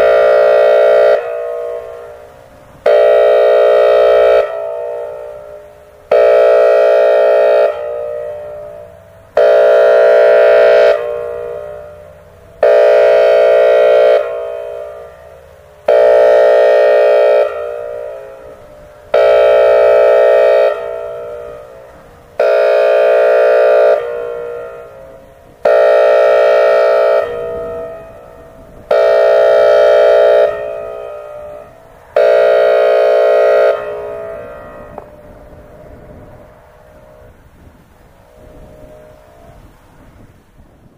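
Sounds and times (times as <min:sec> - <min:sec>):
siren horn blasts with echo: 0:00.0 - 0:40.9.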